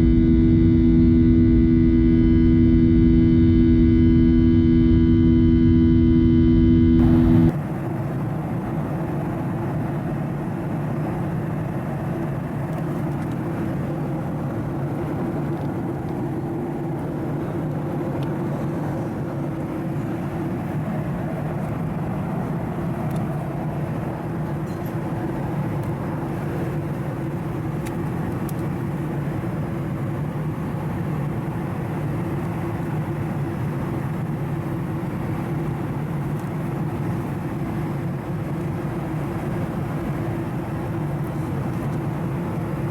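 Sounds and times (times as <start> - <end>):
jet engines and airflow rushing: 0.0 - 42.9.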